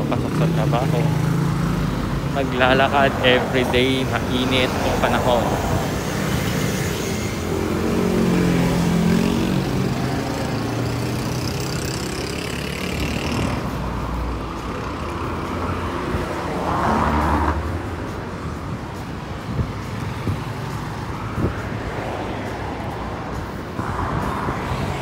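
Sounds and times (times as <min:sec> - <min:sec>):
cars and motorcycles passing: 0:00.0 - 0:25.0
engine hum: 0:00.0 - 0:25.0.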